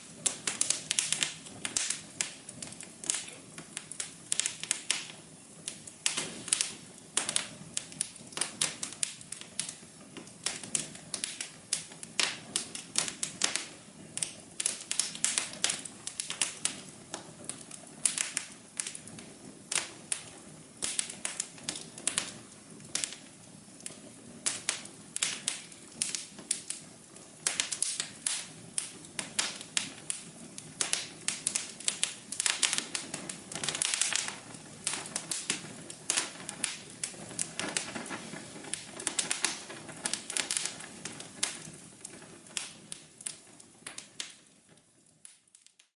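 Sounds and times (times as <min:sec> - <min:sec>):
flames hissing: 0:00.0 - 0:45.9
wood fire crackling: 0:00.0 - 0:45.9.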